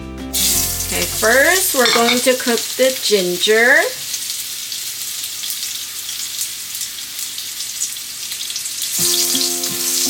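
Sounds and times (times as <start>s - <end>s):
oil sizzling in a pan: 0.2s - 10.0s.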